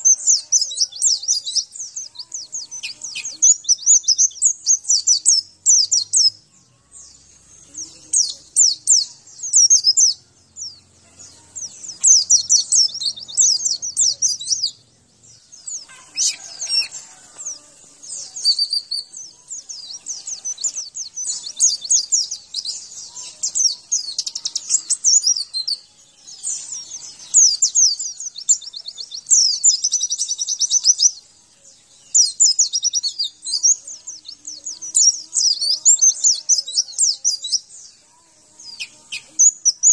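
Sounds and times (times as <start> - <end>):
white-eye bird twittering song: 0.0 - 39.9.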